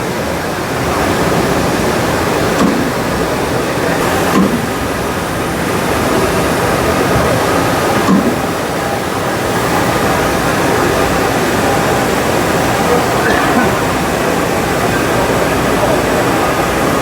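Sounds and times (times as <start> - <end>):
exhibition hall din: 0.0 - 17.0
faint machinery tones: 0.0 - 17.0.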